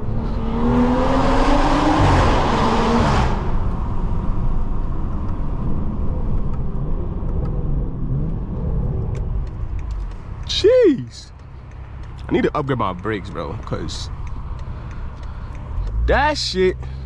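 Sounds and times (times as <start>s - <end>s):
car engine accelerating: 0.0s - 17.0s
low exhaust rumble: 3.3s - 17.0s.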